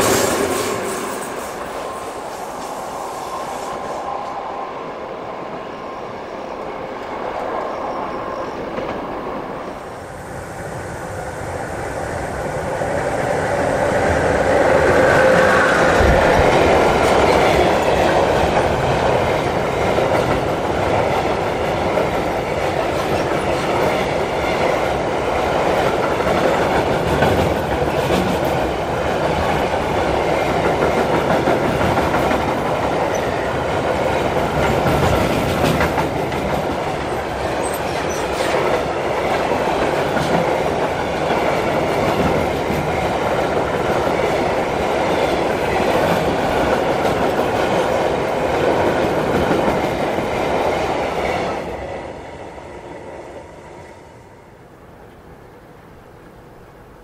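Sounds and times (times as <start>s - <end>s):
freight train rumbling over bridge: 0.0s - 57.0s.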